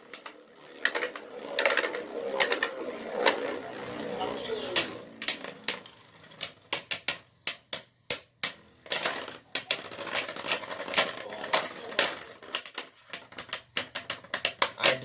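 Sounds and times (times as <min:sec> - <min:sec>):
spinning tops clacking: 0:00.0 - 0:15.0.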